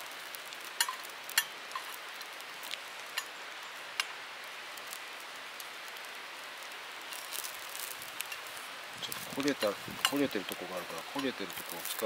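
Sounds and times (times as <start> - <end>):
bun sizzling in frying pan: 0.0 - 12.0
sharp crackles: 0.0 - 12.0.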